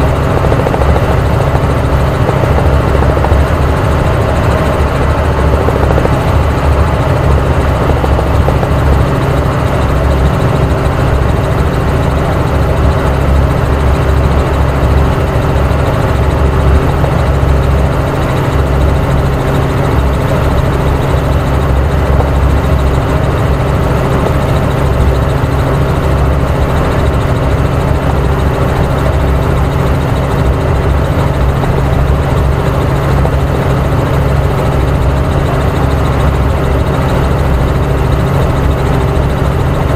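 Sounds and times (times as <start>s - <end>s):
helicopter drone from inside cabin: 0.0s - 39.9s.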